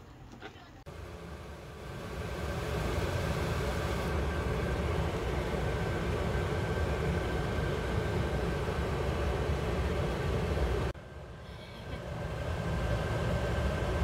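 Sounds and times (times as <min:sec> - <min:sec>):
blower rushing air: 0:00.9 - 0:14.0.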